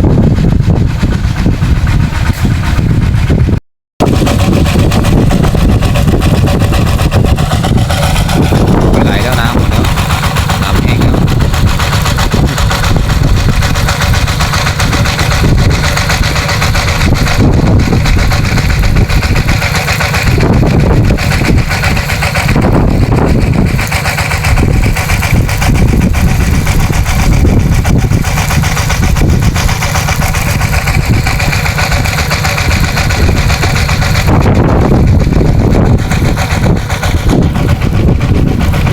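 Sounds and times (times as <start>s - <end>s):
engine-driven water pump running: 0.0s - 38.9s.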